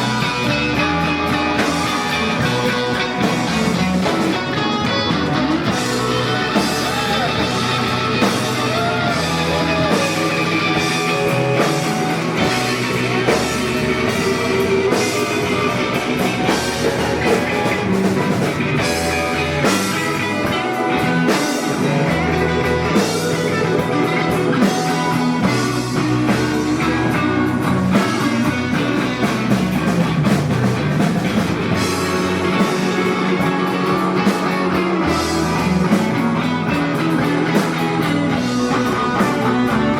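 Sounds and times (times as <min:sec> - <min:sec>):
bass guitar: 0:00.0 - 0:39.9
drum kit: 0:00.0 - 0:39.9
electric guitar bending notes: 0:00.0 - 0:39.9.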